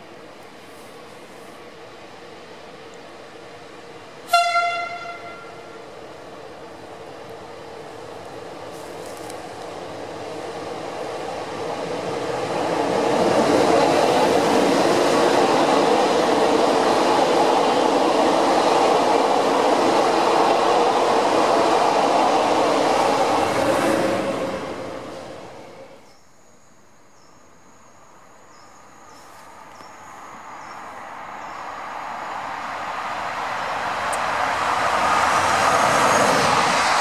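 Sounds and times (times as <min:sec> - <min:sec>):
passenger train passing at speed: 0:00.0 - 0:26.1, 0:28.0 - 0:37.0.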